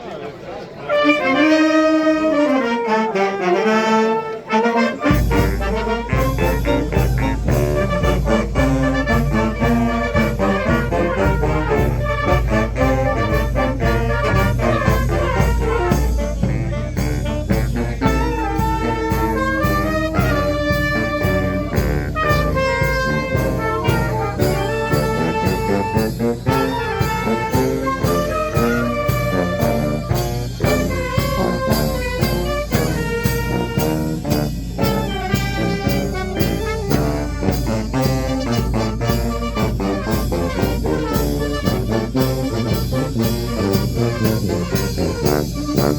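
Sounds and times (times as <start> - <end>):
brass band playing: 0.6 - 45.9
drums beat: 5.1 - 45.9.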